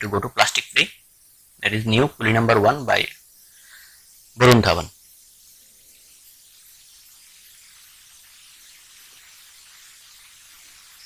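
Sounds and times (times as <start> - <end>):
faint recording hiss: 0.0 - 11.0.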